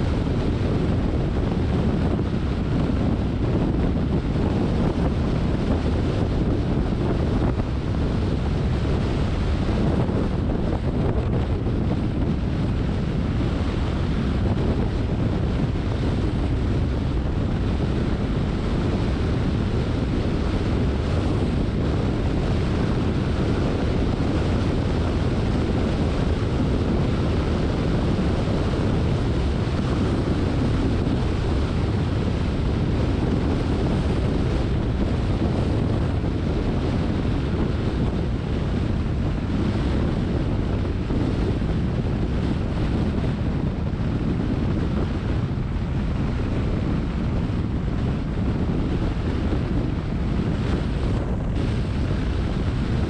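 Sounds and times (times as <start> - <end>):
car road and wind noise: 0.0 - 53.0.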